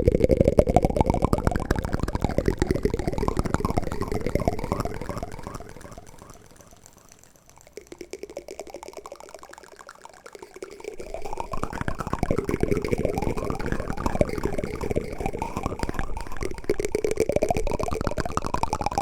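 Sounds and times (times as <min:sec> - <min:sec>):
wooden spoon rapid wet clicks: 0:00.1 - 0:19.0.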